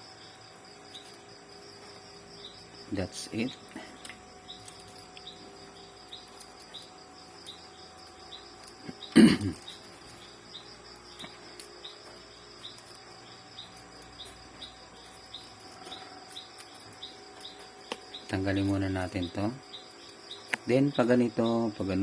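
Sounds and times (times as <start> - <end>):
high insect hiss: 0.0 - 22.0.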